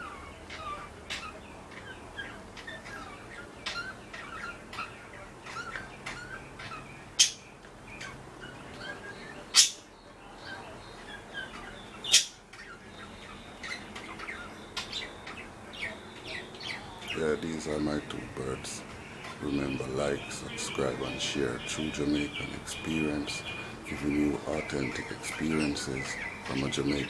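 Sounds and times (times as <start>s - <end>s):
budgerigars chirping: 0.0s - 27.0s.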